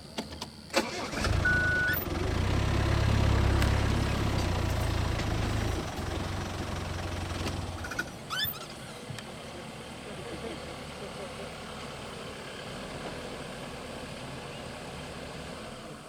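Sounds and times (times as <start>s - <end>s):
vehicle engine running: 0.9s - 16.0s.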